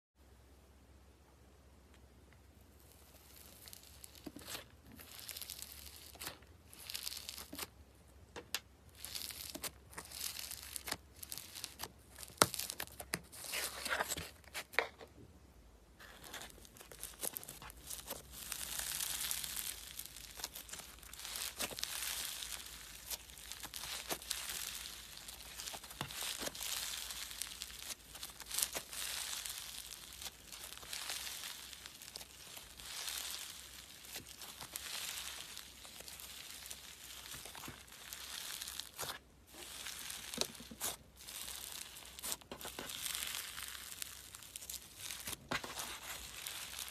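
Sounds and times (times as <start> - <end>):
slime crackling: 2.7 - 14.6, 16.0 - 46.9.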